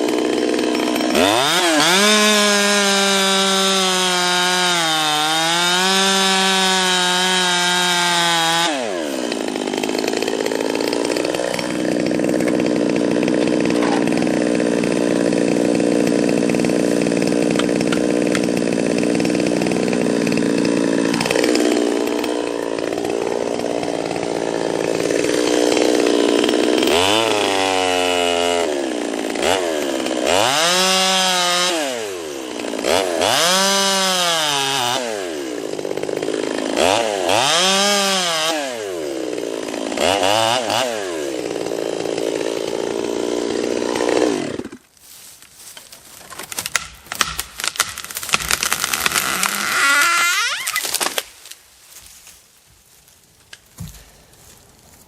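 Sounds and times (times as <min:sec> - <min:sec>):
chainsaw running at full throttle: 0:00.0 - 0:44.9, 0:46.6 - 0:51.3.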